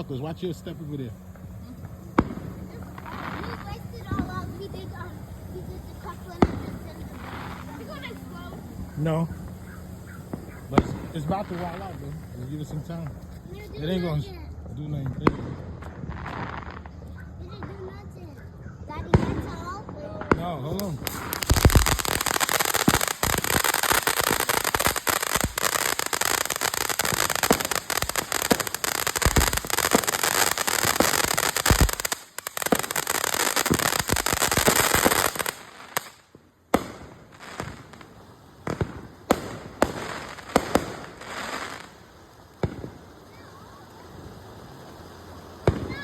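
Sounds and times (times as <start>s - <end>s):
firework fountain hissing crackle: 0.0s - 46.0s
firework pops and crackles: 0.0s - 46.0s.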